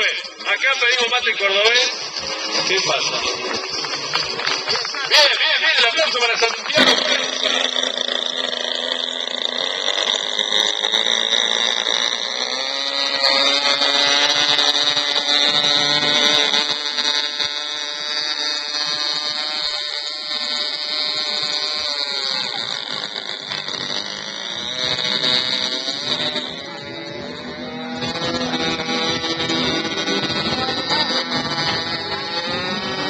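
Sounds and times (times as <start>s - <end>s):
model plane engine whining: 0.0s - 33.0s.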